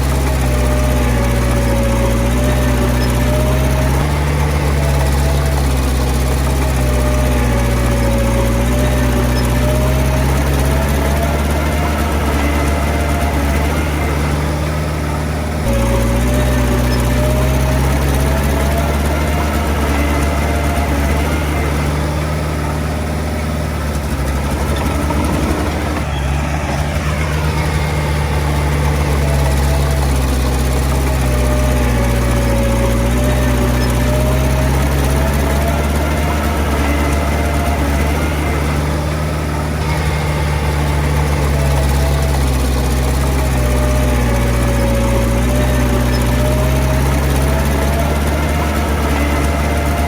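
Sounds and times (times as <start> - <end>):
heavy diesel engine running: 0.0 - 50.0
thin wavering whine: 0.0 - 50.0.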